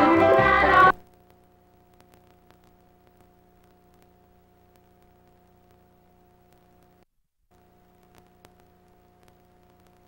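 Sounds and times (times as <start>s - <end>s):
faint steady hum: 0.0s - 10.0s
low hiss: 0.0s - 10.0s
faint clicks: 1.0s - 10.0s.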